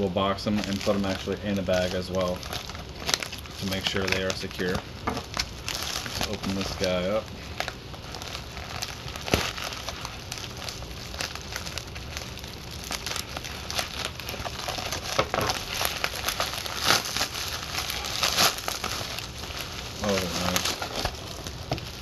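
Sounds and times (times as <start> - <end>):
package wrapping crinkling: 0.0 - 22.0.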